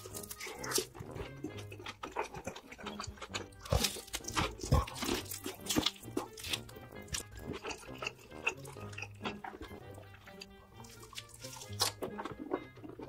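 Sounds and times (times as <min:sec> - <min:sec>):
crunching and chewing fried chicken: 0:00.0 - 0:13.0
soft background music: 0:00.0 - 0:13.0.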